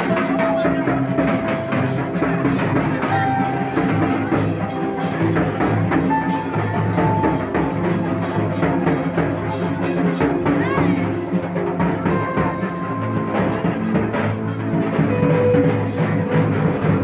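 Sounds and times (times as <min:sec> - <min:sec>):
music with drum beat: 0:00.0 - 0:17.0.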